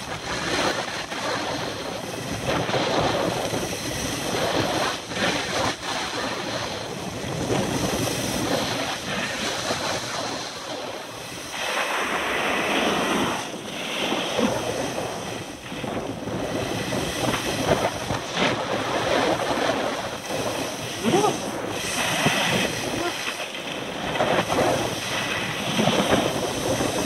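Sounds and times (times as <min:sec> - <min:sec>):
skis scraping across snow: 0:00.0 - 0:27.0
wind rushing over microphone: 0:00.0 - 0:27.0.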